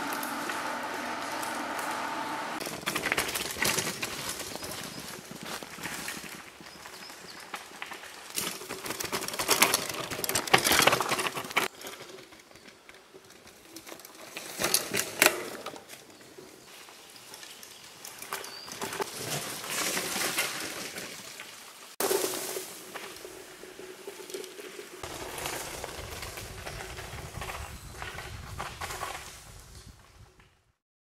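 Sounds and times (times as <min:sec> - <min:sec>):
bike brushing through plants: 0:00.0 - 0:12.0, 0:16.6 - 0:30.0
bike tyres crunching over gravel: 0:00.0 - 0:30.6.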